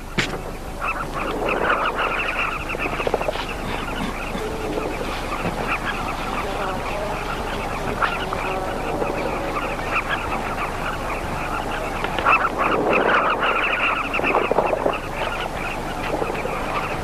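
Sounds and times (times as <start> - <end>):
bee-eaters calling: 0.0 - 17.0.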